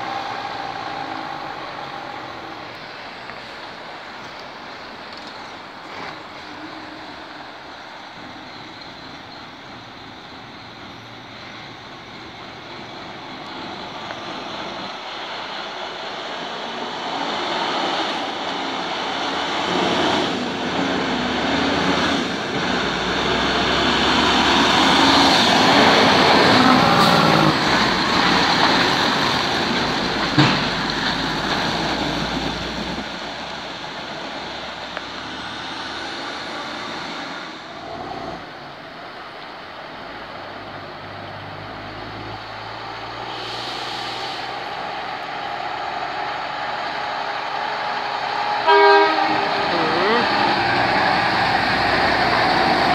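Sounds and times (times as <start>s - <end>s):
truck passing by: 0.0s - 52.9s.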